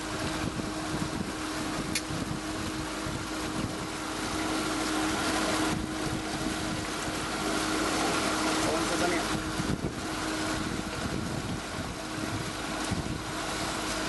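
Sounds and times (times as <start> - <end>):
boat wake churning: 0.0 - 14.0
outboard motor running: 0.0 - 14.0.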